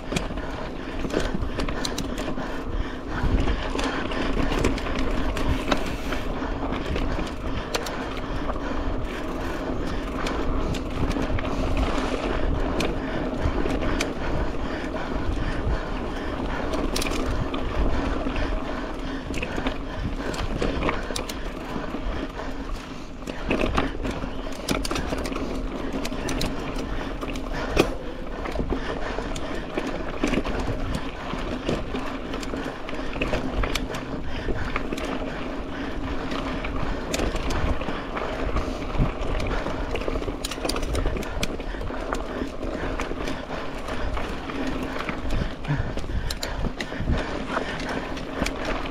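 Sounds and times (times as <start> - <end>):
bike clicks and rattles: 0.0 - 48.9
bike tyres on dirt: 0.0 - 48.9.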